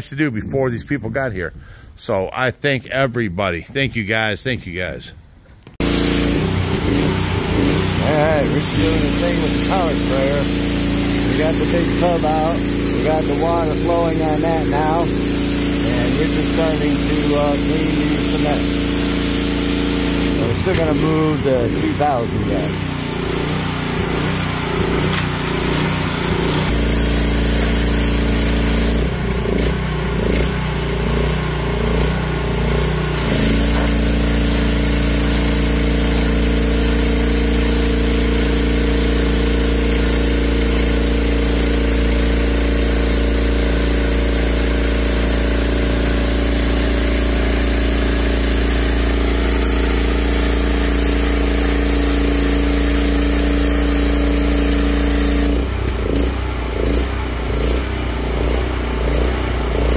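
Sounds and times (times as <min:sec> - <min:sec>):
pressure washer engine running: 0:05.8 - 0:59.9
spray jet hissing on concrete: 0:05.8 - 0:59.9.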